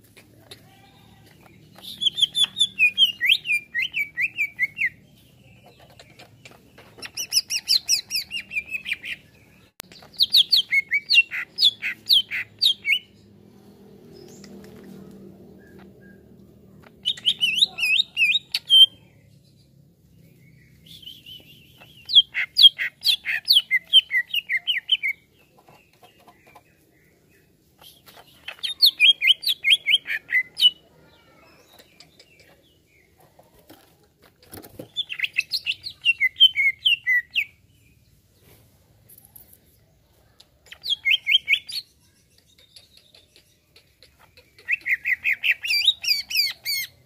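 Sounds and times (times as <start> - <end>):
bird chirping song: 0.0 - 47.0.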